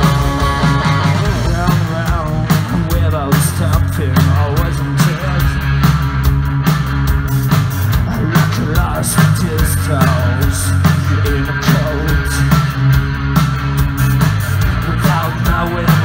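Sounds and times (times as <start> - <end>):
bass guitar: 0.0 - 16.0
distorted electric guitars: 0.0 - 16.0
drum kit beat: 0.0 - 16.0.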